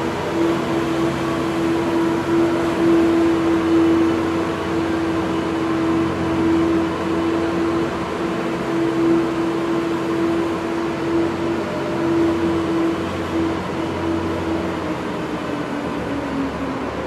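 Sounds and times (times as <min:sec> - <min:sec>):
ice resurfacer engine hum: 0:00.0 - 0:17.0.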